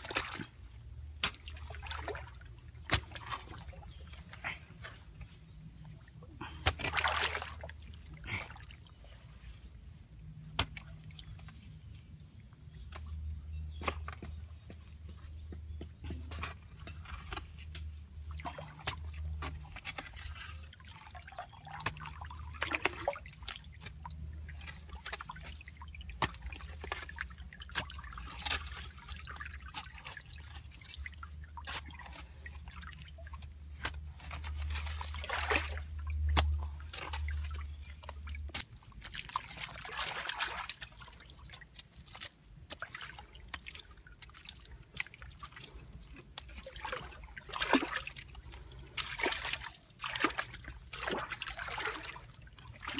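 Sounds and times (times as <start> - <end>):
muddy water splashing and trickling: 0.0 - 52.9.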